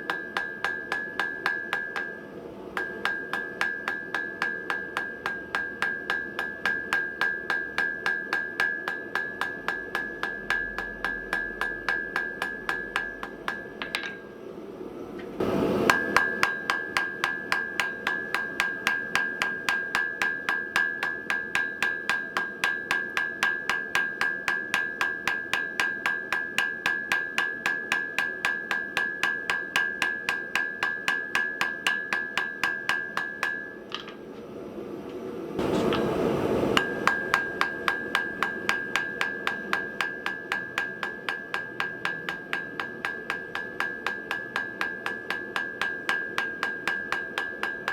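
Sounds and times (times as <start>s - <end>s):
hammer striking ringing anvil: 0.0s - 2.2s, 2.8s - 14.2s, 15.8s - 34.0s, 36.8s - 47.9s.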